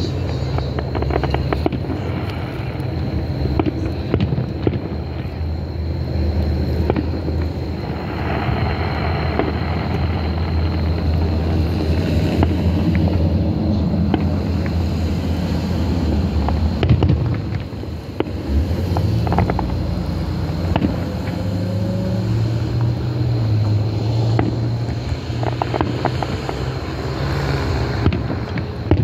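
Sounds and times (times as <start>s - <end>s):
distant fireworks pops and crackles: 0.0s - 21.6s, 22.2s - 29.0s
low rumble: 0.0s - 26.9s.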